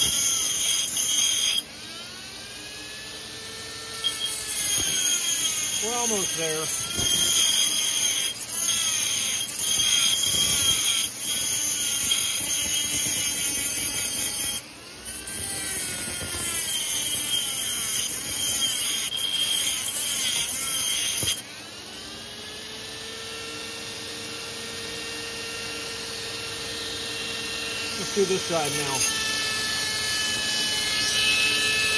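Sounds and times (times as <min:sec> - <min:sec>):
rotary tool grinding metal: 0:00.0 - 0:31.9
rotary tool whining freely: 0:00.0 - 0:31.9.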